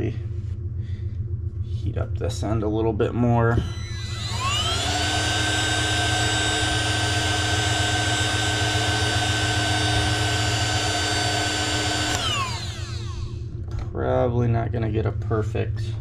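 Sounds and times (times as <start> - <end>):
heat gun fan whine: 0.0 - 16.0.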